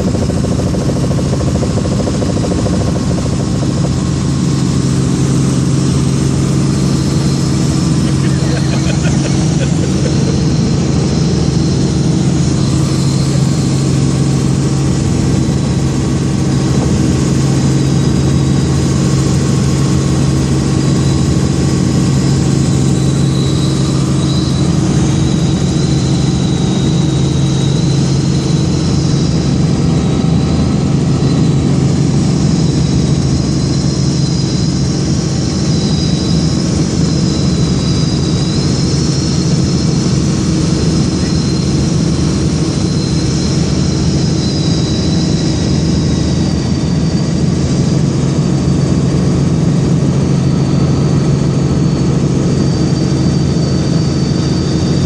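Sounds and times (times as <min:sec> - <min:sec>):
helicopter flying: 0:00.0 - 0:55.0.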